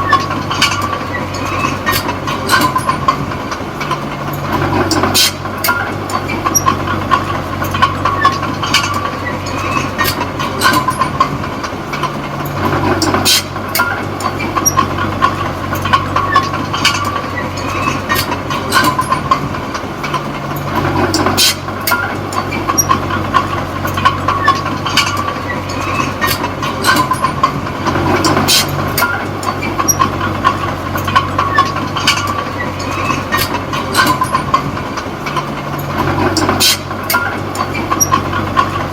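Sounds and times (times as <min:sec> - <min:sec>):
bulldozer diesel engine: 0:00.0 - 0:38.9
steel tracks clanking: 0:00.0 - 0:38.9.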